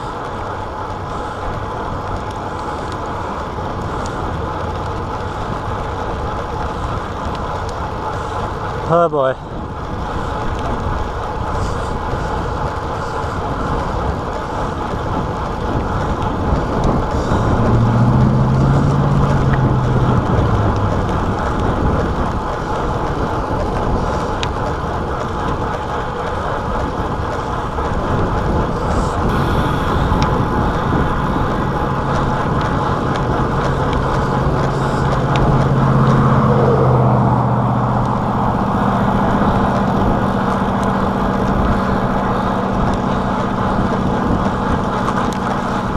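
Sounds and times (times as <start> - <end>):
motor vehicle engines humming: 0.0 - 45.9
wind rushing over microphone: 0.0 - 45.9.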